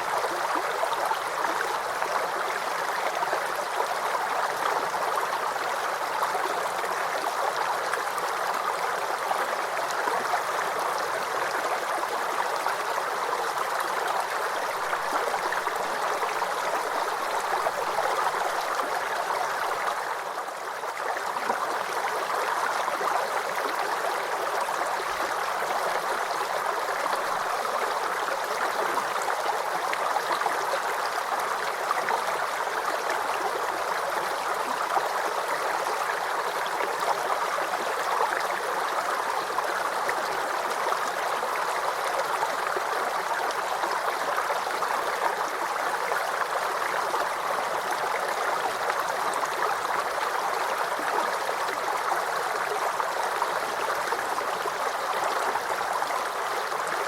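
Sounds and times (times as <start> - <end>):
creek babbling over stones: 0.0 - 57.0.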